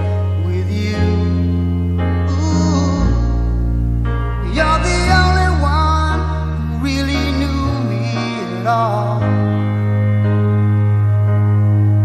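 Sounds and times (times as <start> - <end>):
song with sung melody: 0.0 - 10.4.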